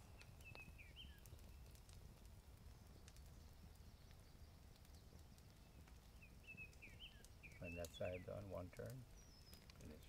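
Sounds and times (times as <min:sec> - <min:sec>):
bird chirping: 0:00.0 - 0:01.9, 0:02.7 - 0:10.0.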